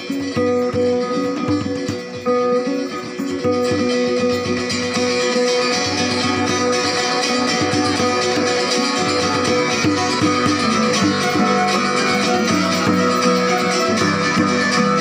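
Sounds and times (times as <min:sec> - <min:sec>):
bowed fiddle long notes: 0:00.0 - 0:15.0
hand drum beat: 0:00.0 - 0:15.0
violin: 0:00.0 - 0:15.0.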